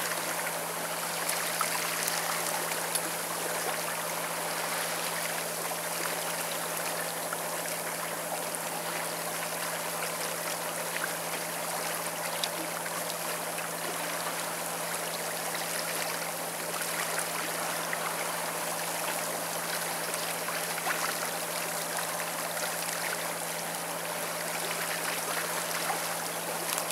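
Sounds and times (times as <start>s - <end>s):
boat engine hum: 0.0s - 26.9s
water rushing along boat hull: 0.0s - 26.9s.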